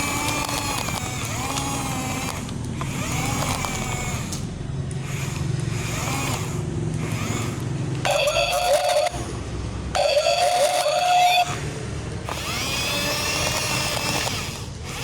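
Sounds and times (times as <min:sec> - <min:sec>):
toy electric motors whining: 0:00.0 - 0:15.0.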